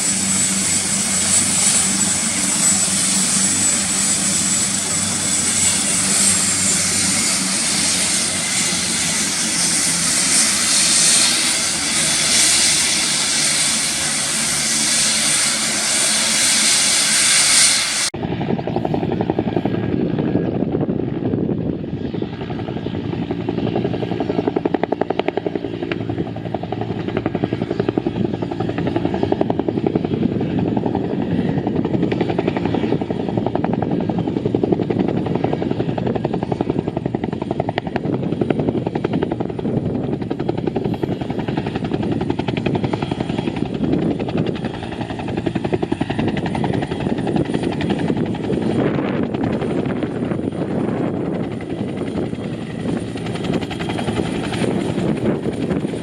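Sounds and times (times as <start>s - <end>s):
helicopter engine running: 0.0s - 56.0s
helicopter rotor blades beating: 0.0s - 56.0s.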